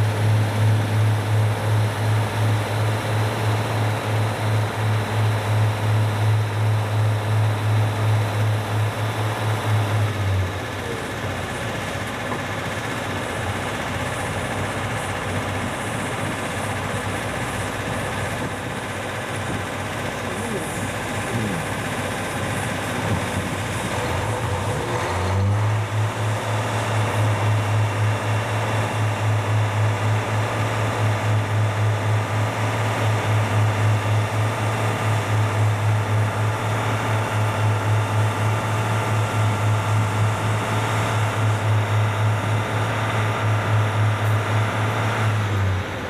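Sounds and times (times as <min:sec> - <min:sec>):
pulsing locomotive hum: 0:00.0 - 0:46.0.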